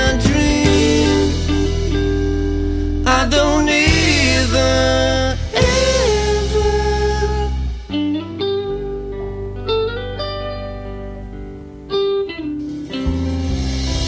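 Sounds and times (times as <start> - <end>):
plucked guitar pop music: 0.0 - 14.0.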